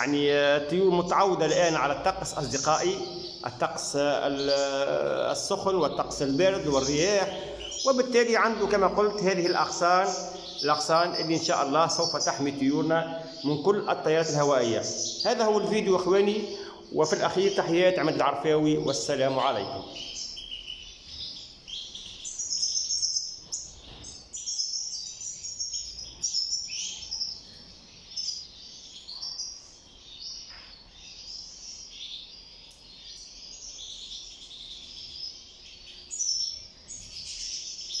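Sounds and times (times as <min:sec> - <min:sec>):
finches twittering and chirping: 0:00.0 - 0:38.0.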